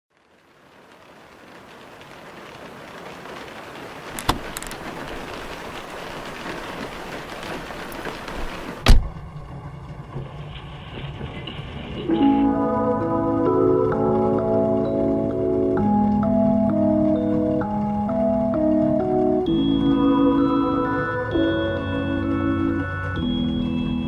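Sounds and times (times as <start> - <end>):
rain hiss: 0.1 - 24.0.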